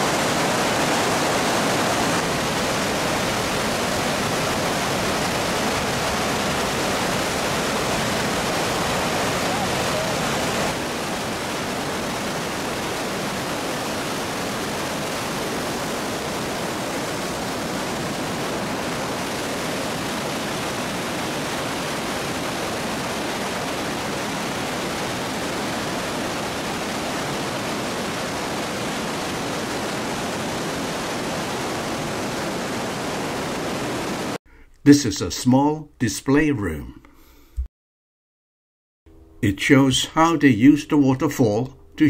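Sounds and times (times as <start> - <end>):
waterfall rushing: 0.0 - 34.4.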